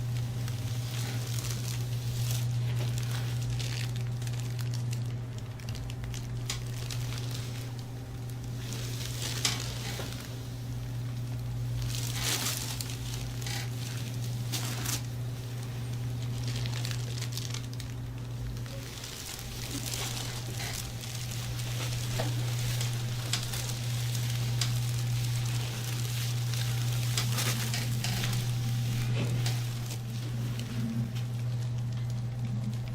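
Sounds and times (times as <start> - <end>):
low hum: 0.0 - 32.9.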